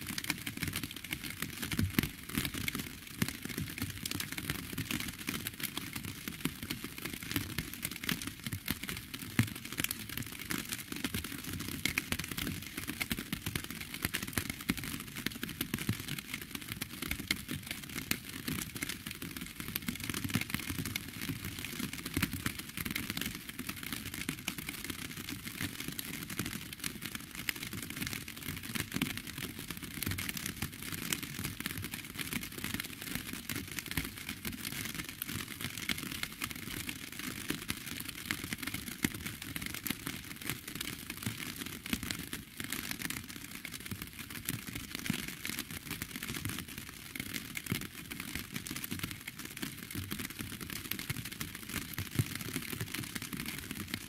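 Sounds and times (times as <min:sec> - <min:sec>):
rain pattering on hard surface: 0:00.0 - 0:54.0.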